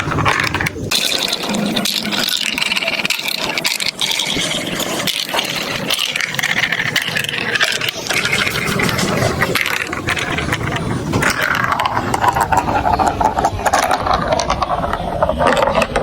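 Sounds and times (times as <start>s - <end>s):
marbles rattling down plastic run: 0.0s - 16.0s.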